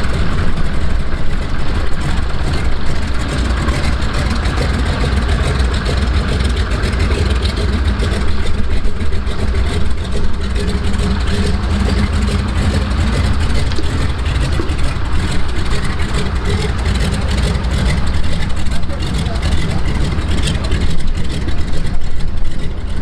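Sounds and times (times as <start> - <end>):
seaplane engine droning: 0.0 - 23.0.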